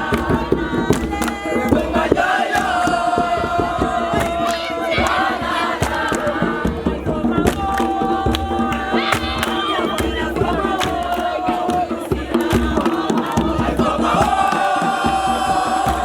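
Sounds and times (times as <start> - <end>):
group of voices chanting: 0.0 - 16.0
sharp percussive strikes: 0.0 - 16.0.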